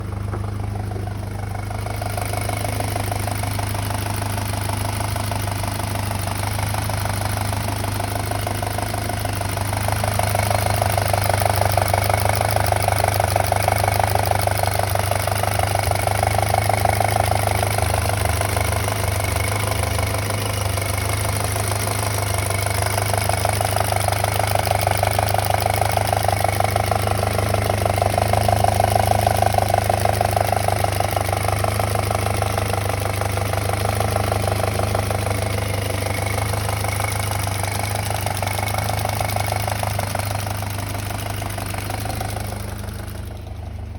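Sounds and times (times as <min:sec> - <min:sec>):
car engine idling with rattle: 0:00.0 - 0:43.9.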